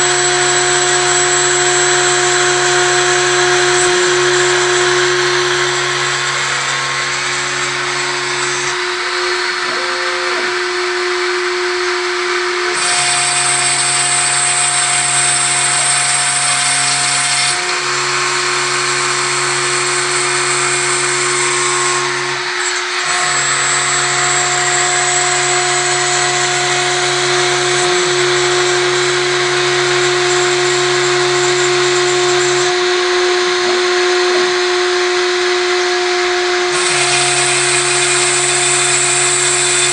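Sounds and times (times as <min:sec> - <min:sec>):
machine milling acrylic: 0:00.0 - 0:39.9
router spindle whine: 0:00.0 - 0:39.9.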